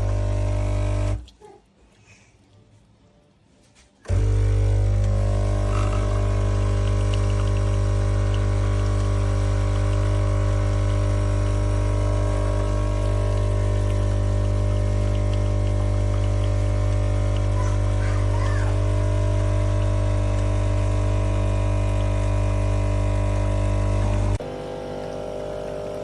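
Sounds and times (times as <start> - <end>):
espresso machine pump buzzing: 0.0 - 1.2, 4.0 - 26.0.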